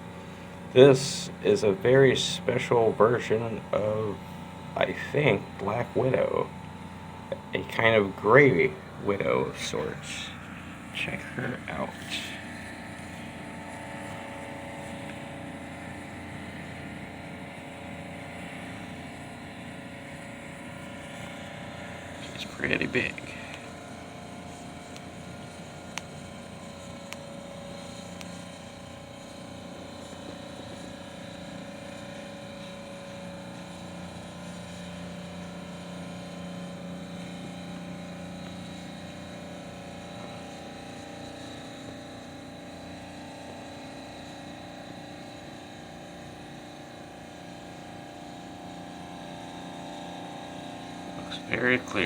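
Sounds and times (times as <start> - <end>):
machine hum: 0.0 - 52.0.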